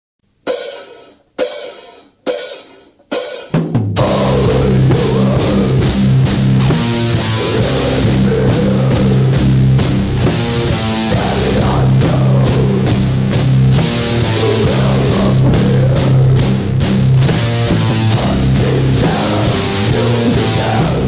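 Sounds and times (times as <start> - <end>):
drum and cymbal hits: 0.3 - 21.0
heavy metal band playing: 3.9 - 21.0.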